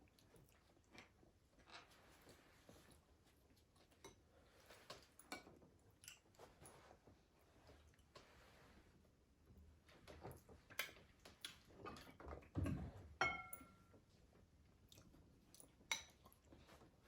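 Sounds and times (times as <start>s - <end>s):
chewing and eating: 0.0s - 8.7s, 9.9s - 12.5s, 14.4s - 17.0s.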